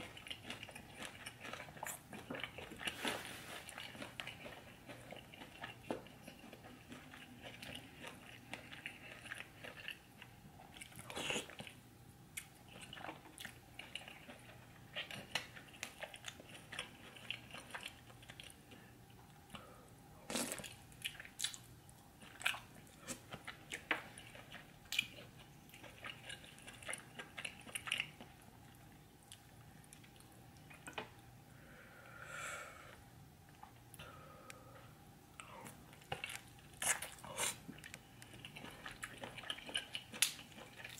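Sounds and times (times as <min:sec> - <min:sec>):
chewing and biting: 0:00.0 - 0:18.9, 0:20.3 - 0:31.0, 0:35.4 - 0:40.9.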